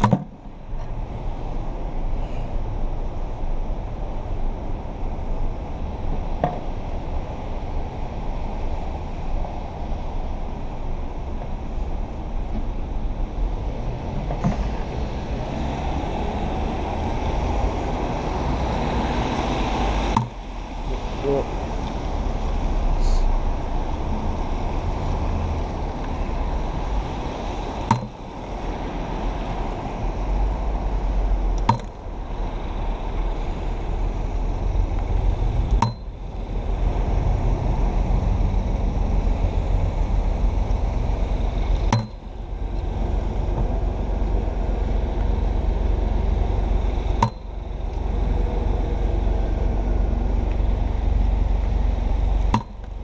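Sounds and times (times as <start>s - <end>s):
car traffic on wet street: 0.0s - 53.0s.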